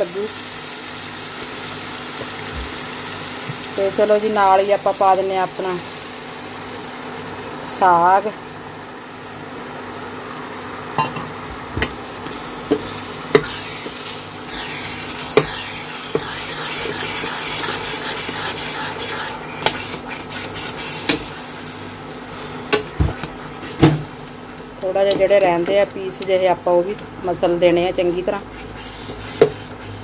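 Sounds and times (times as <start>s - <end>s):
food frying sizzle: 0.0s - 27.2s.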